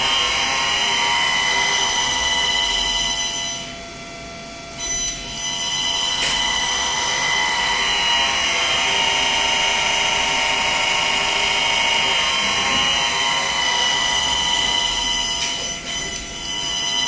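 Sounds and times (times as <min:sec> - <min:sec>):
motor drive electrical whine: 0:00.0 - 0:17.0.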